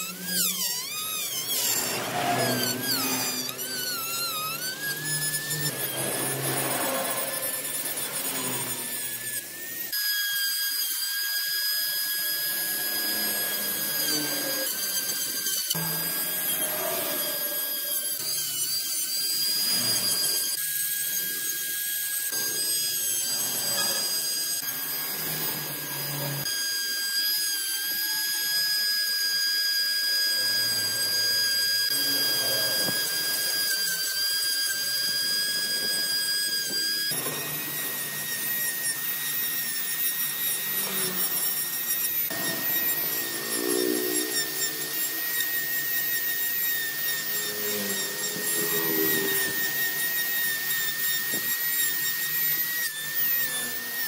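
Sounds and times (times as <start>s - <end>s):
electric power tool whining: 0.0s - 54.0s
rough cutting noise: 0.0s - 54.0s.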